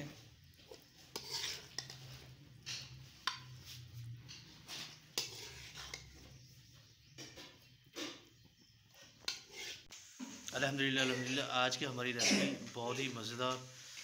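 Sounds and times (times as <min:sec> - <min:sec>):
spatula scraping a steel pot: 0:00.5 - 0:11.8.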